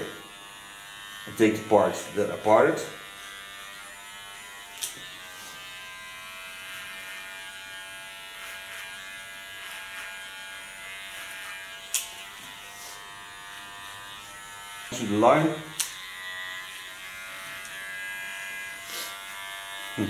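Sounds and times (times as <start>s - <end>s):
hair clipper buzzing: 0.0s - 20.0s.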